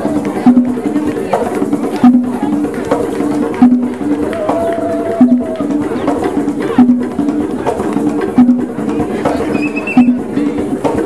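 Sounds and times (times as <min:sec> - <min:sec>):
hand drums playing rhythm: 0:00.0 - 0:11.0.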